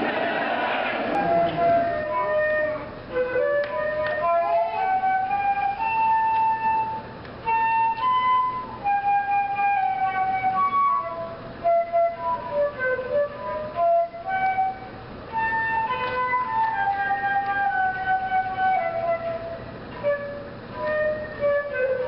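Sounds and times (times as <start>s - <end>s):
flute solo melody: 1.2s - 22.0s.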